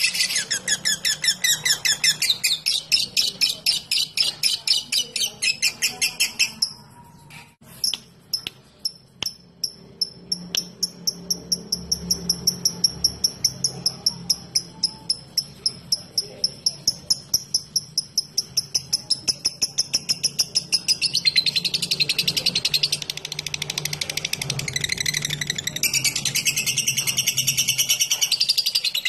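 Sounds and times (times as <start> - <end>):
bird chattering: 0.0 - 29.0.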